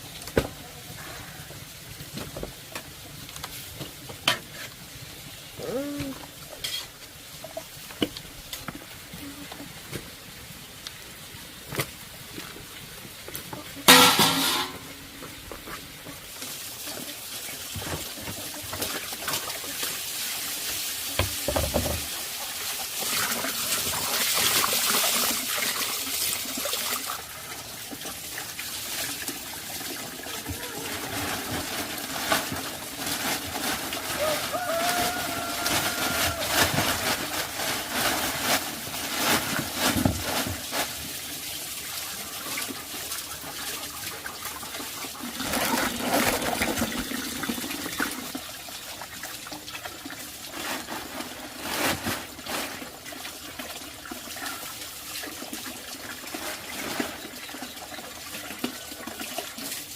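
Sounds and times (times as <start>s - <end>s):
water running and splashing: 0.0s - 59.9s.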